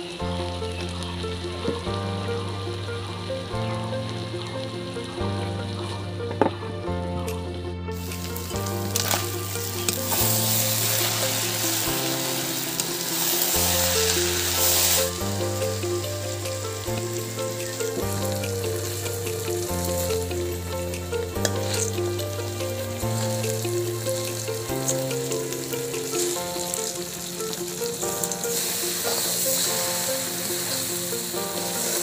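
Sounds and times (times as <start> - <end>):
background music with bass line: 0.0 - 32.0
food sizzling and frying: 0.0 - 32.0.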